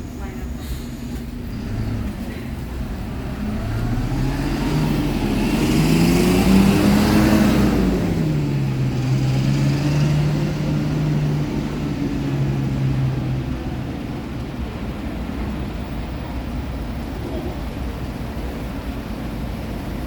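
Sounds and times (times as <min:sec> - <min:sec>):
diesel bus engine revving: 0:00.7 - 0:20.0.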